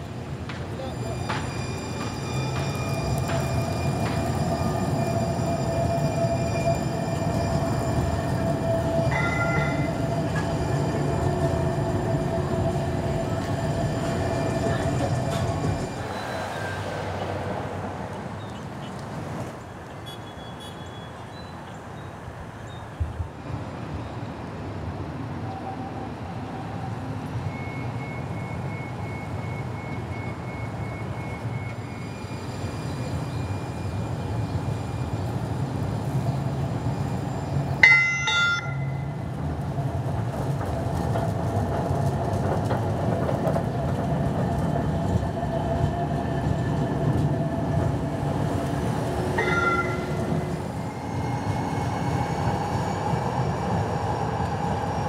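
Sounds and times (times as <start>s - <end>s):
street sound: 0.0s - 55.0s
streetcar passing: 0.0s - 55.0s.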